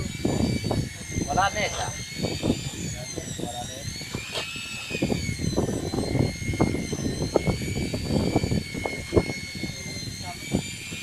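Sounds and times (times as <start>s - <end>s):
boat motor whining: 0.0s - 11.0s.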